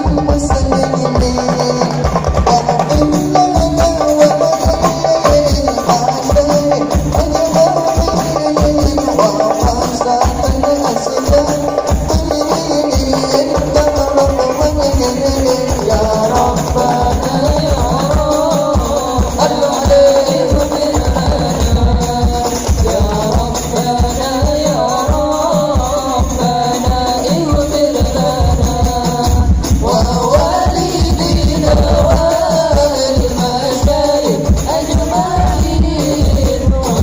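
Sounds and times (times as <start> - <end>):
frame drums playing: 0.0 - 37.0
group singing: 0.0 - 37.0.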